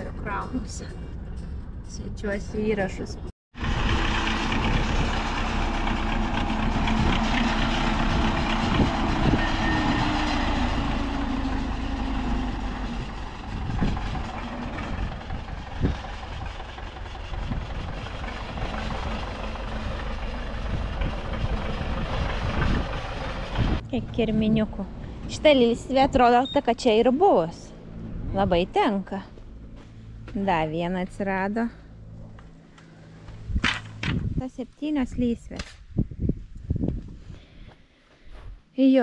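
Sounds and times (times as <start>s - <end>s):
road and engine noise in car: 0.0s - 34.4s.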